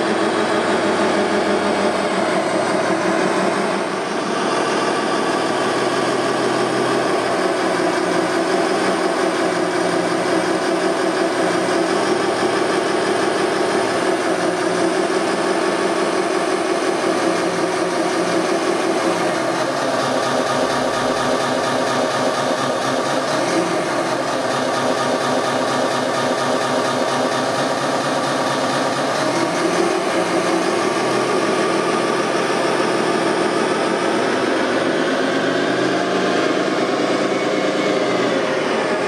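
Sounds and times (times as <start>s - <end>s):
model loader engine drone: 0.0s - 39.0s.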